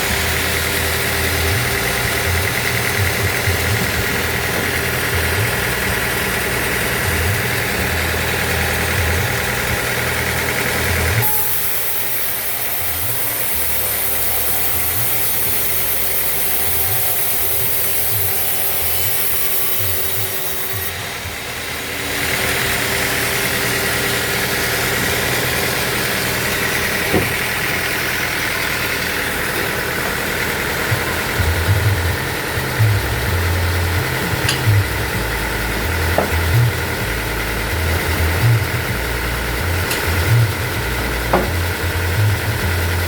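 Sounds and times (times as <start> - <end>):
band saw cutting wood: 0.0 - 43.0.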